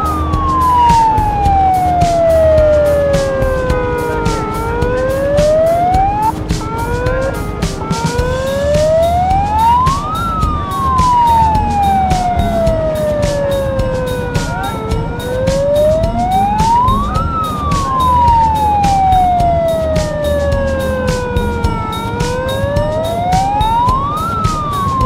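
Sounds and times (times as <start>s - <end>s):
rapid sharp clattering beats: 0.0s - 25.0s
siren wailing: 0.0s - 25.0s.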